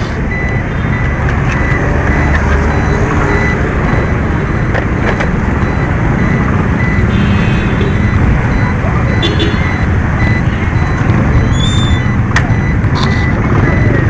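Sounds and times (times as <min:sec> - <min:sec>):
high beep: 0:00.3 - 0:14.0.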